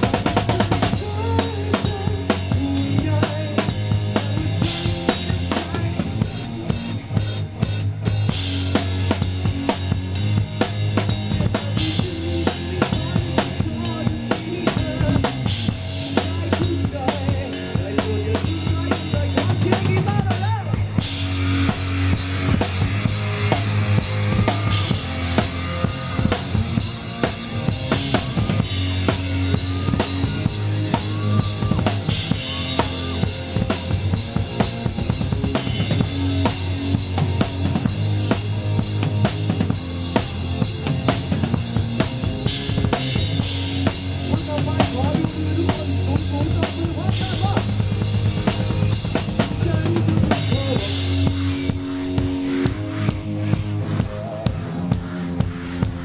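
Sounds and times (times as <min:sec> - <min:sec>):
drum kit beat: 0:00.0 - 0:56.0
rock band playing: 0:00.0 - 0:56.0.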